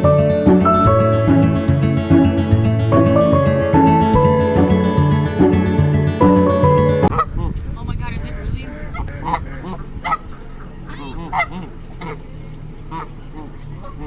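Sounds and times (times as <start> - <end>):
geese honking: 0.5 - 14.0.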